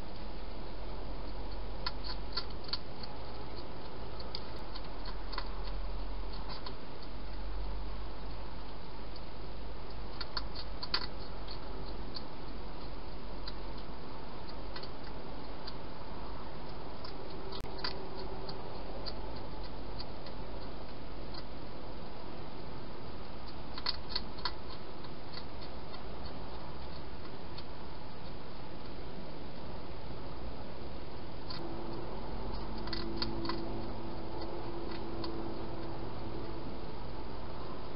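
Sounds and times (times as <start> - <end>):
hedgehog chewing crunches: 0.0 - 37.9.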